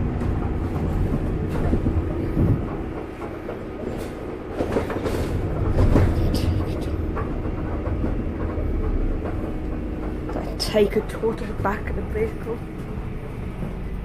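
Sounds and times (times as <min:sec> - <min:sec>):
bus engine and road rumble: 0:00.0 - 0:14.0
bus fittings rattling and knocking: 0:00.0 - 0:14.0.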